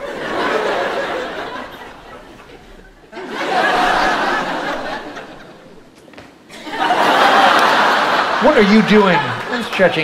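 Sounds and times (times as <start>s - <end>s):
audience laughing: 0.0s - 10.0s.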